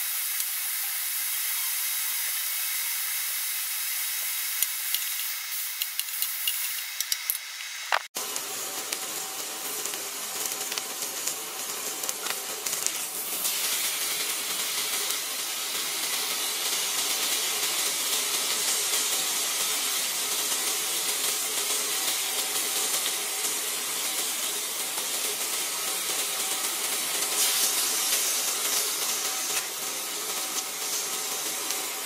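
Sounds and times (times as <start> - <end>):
steak sizzling in a grill pan: 0.0 - 6.8, 8.2 - 32.0.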